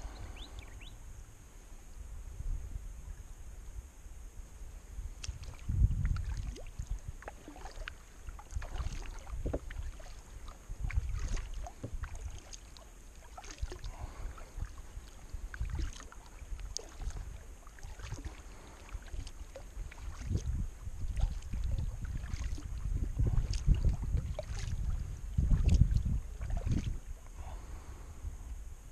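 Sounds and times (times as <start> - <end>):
paddle splashing and dripping: 0.0 - 0.9, 5.1 - 27.9.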